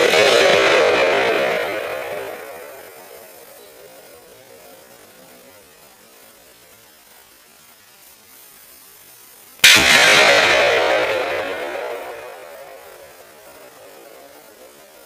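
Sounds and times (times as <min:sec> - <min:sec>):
faint steady hiss and hum: 0:00.0 - 0:15.0.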